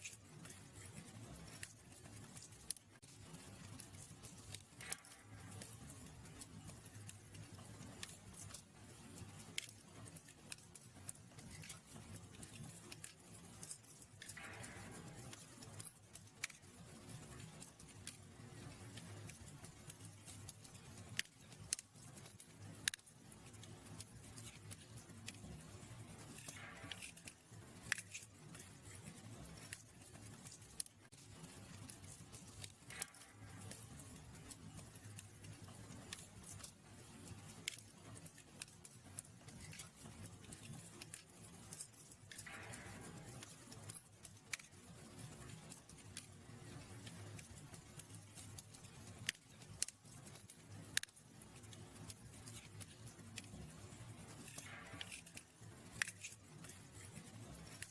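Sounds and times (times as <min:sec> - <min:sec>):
low rumble of burning: 0:00.0 - 0:57.9
wood fire crackling and popping: 0:00.0 - 0:57.9.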